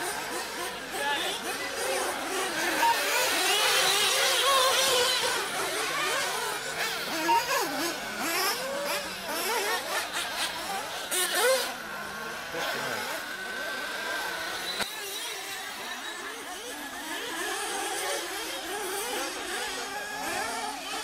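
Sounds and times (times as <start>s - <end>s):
rc car engines revving: 0.0s - 21.0s.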